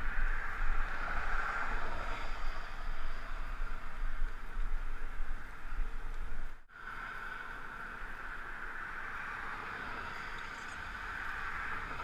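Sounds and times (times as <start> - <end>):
highway traffic hiss: 0.0 - 12.0
wind buffeting microphone: 0.0 - 12.0.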